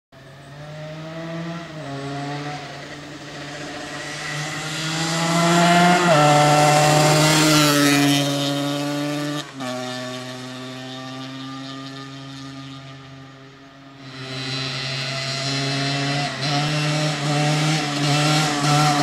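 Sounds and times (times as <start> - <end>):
motorcycle engine accelerating: 0.2 - 19.0.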